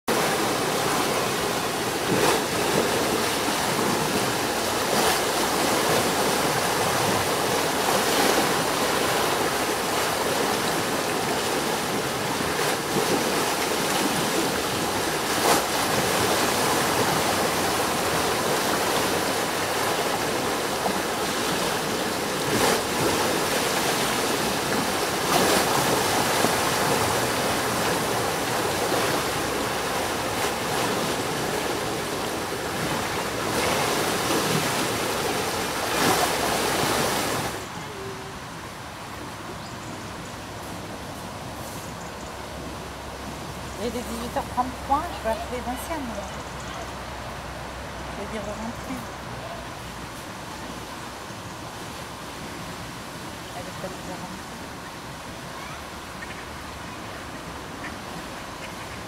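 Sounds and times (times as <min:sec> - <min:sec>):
water rushing over weirs: 0:00.0 - 0:59.0.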